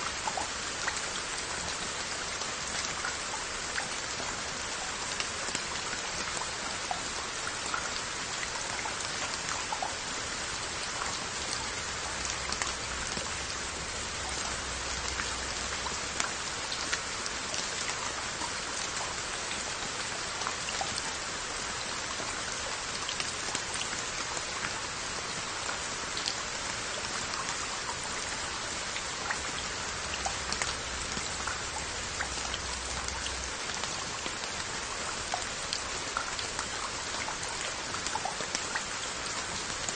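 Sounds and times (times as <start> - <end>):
rain on earthenware crocks: 0.0 - 39.9.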